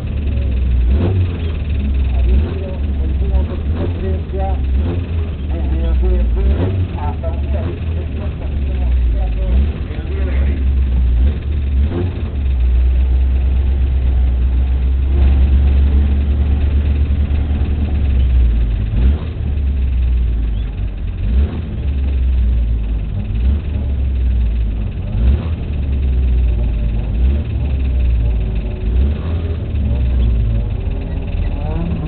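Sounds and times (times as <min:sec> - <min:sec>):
race car engine at low revs: 0:00.0 - 0:32.0.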